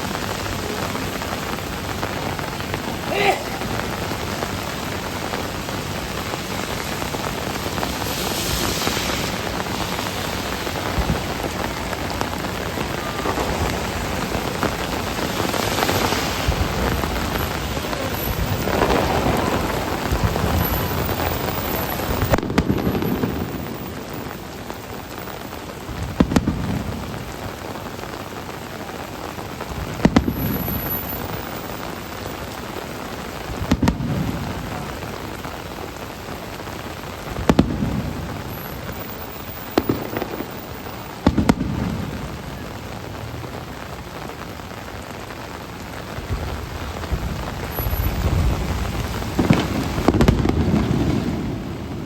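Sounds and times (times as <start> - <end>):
fireworks bursting: 0.0 - 52.0
steady rain hissing: 0.0 - 52.0.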